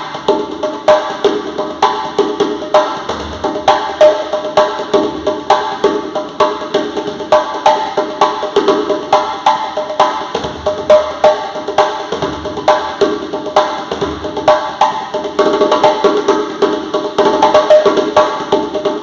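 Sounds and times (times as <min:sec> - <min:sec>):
hand drum strikes: 0:00.0 - 0:19.0.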